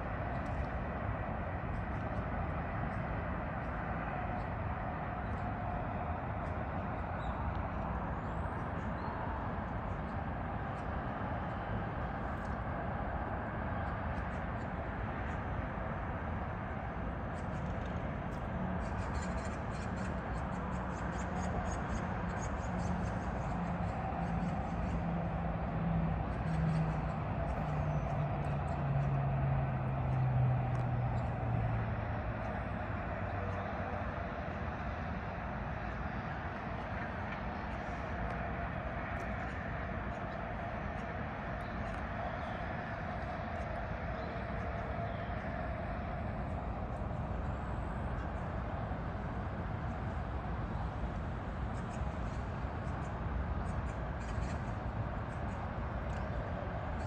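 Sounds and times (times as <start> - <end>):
distant city traffic: 0.0 - 57.0.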